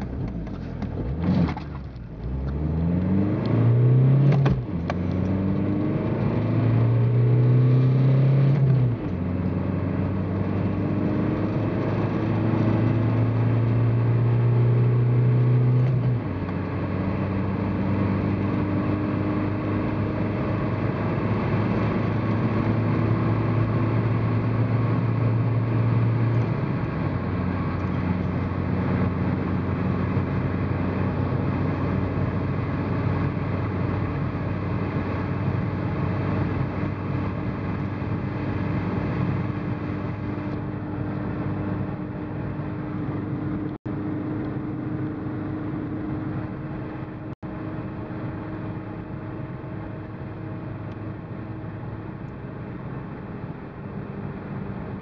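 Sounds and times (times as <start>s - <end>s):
diesel car engine accelerating: 0.0s - 55.0s.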